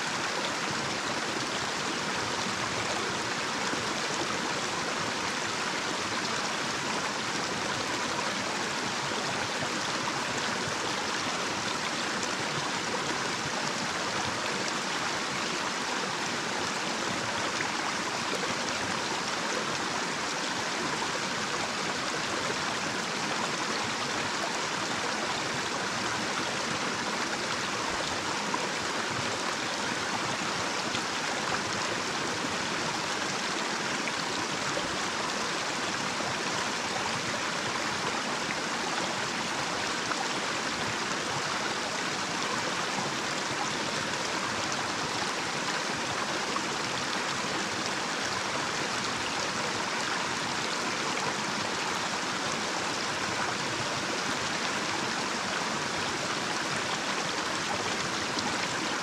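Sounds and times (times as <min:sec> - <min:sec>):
stream flowing over cascade: 0:00.0 - 0:59.0.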